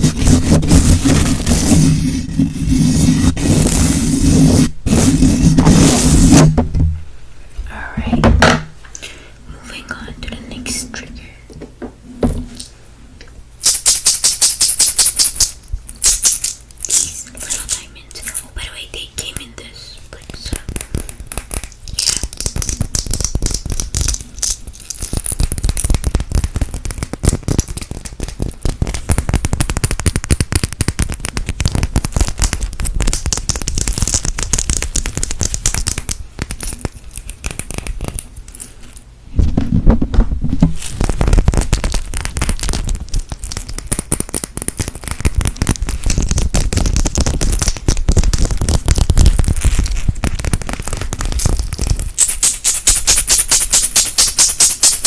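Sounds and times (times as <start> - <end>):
crackling scratches on microphone: 0.0 - 6.6, 13.6 - 55.0.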